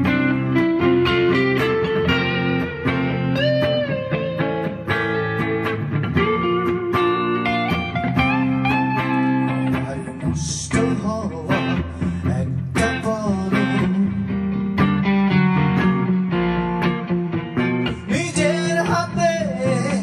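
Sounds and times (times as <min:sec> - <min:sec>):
electric guitar lead melody: 0:00.0 - 0:20.0
electric guitar sustained chords: 0:00.0 - 0:20.0.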